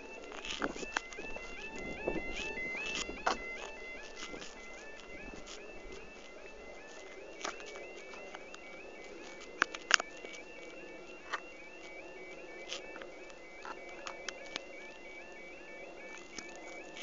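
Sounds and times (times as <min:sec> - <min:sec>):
level crossing alarm warbling: 0:00.0 - 0:17.0.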